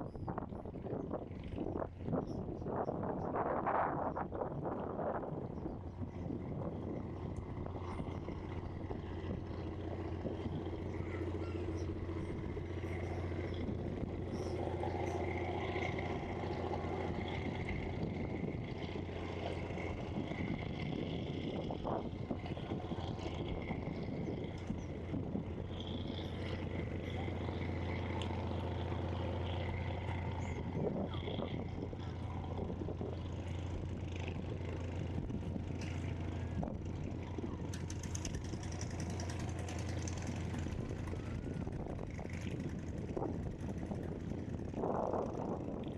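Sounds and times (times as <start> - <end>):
low engine hum: 0.0 - 45.9
faint voices: 6.3 - 45.9.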